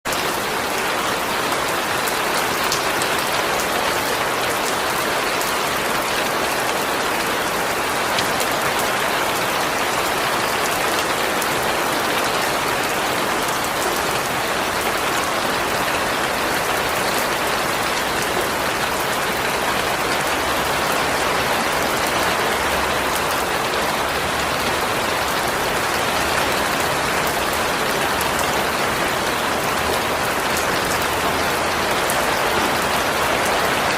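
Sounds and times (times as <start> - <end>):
raindrops ticking on surfaces: 0.1 - 33.9.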